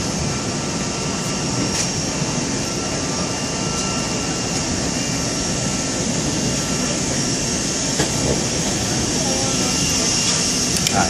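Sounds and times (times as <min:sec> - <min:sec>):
jet noise rushing: 0:00.0 - 0:11.0
thin high whines: 0:00.0 - 0:11.0.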